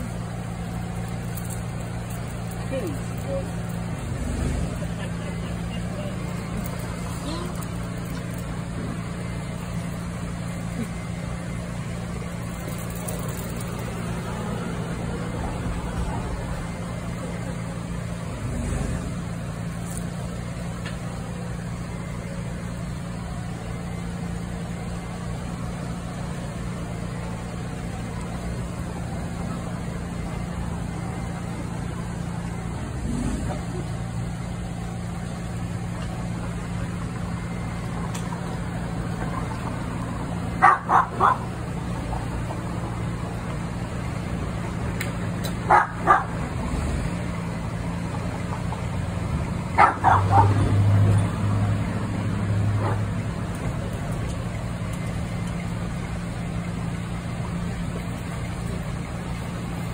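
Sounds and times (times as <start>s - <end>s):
low mechanical hum: 0.0s - 59.9s
street noise: 0.0s - 59.9s.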